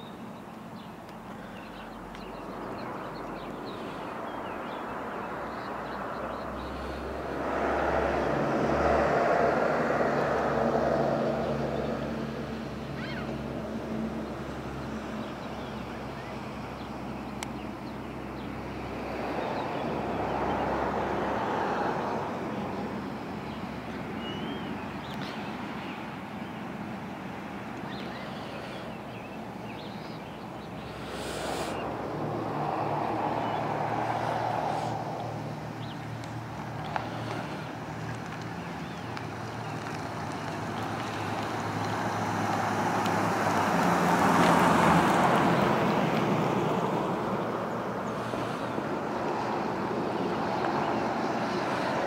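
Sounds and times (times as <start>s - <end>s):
vehicles passing: 0.0s - 52.0s.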